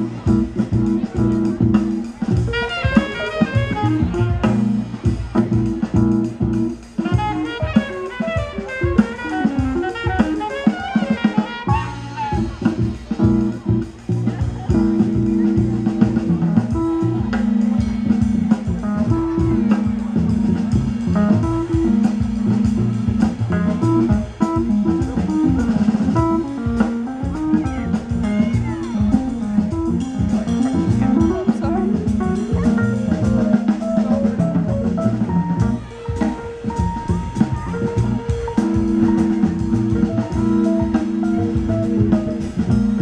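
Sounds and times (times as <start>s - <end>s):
jazz bass and drums: 0.0s - 43.0s
saxophone melody: 0.0s - 43.0s.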